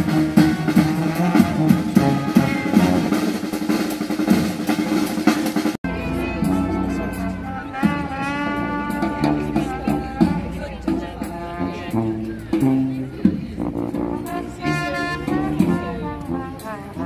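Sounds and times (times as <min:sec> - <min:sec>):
brass street band playing: 0:00.0 - 0:17.0.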